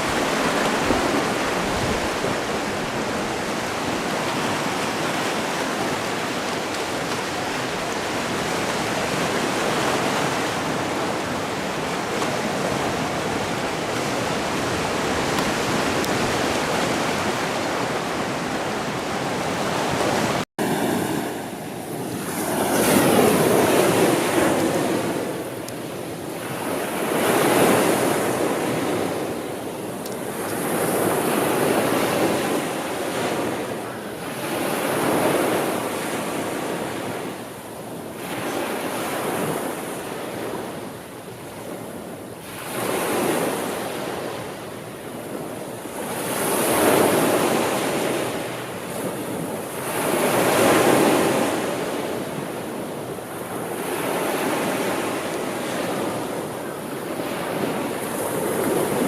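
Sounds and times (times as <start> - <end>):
sea surf rushing: 0.0 - 59.0
waves washing in: 0.0 - 59.0.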